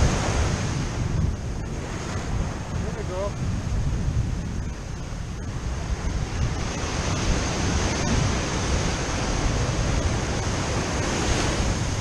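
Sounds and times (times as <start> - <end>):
ocean waves washing: 0.0 - 12.0
wind buffeting microphone: 0.0 - 12.0.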